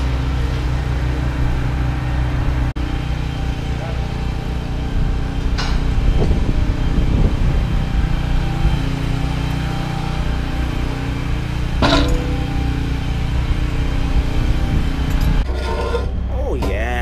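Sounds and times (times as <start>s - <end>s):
crane diesel engine running: 0.0s - 17.0s.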